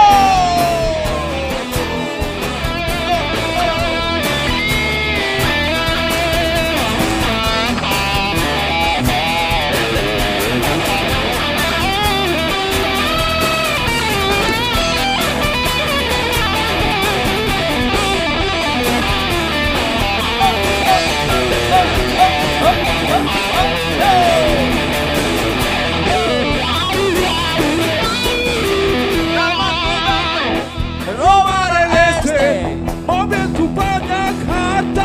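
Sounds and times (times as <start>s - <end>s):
electric guitar lead: 0.0s - 35.0s
rock band playing: 0.0s - 35.0s.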